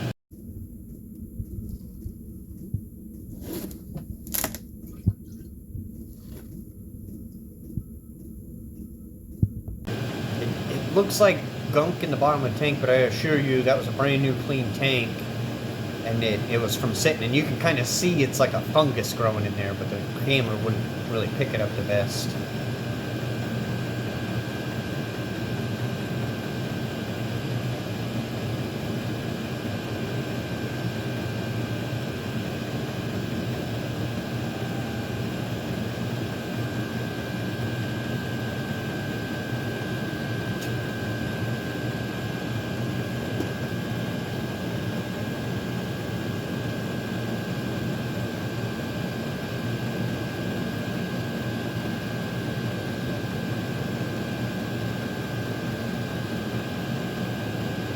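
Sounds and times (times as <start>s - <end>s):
heater blower fans whirring: 0.0s - 57.9s.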